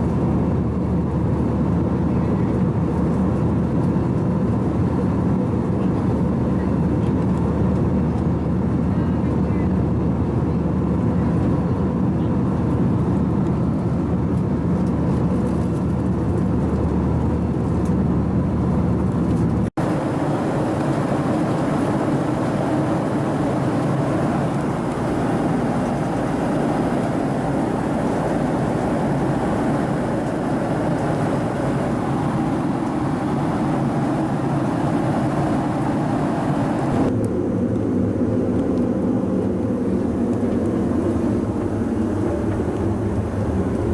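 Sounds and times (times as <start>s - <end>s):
airplane cabin engine roar: 0.0s - 43.9s.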